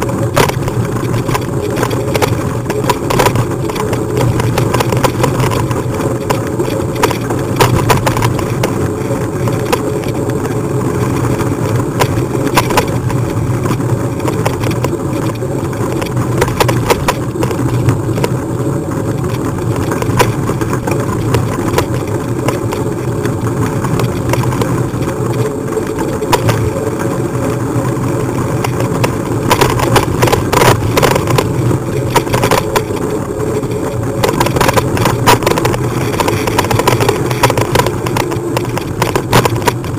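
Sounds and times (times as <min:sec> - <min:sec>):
bike rumbling and rattling: 0:00.0 - 0:39.9.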